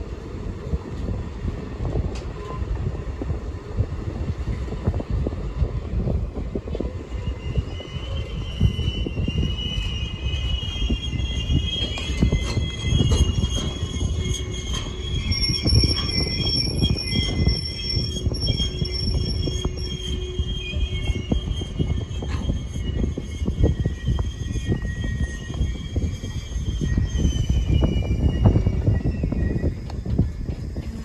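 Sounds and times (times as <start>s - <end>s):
heavy low train rumble: 0.0s - 31.0s
train wheels squealing: 0.3s - 31.0s.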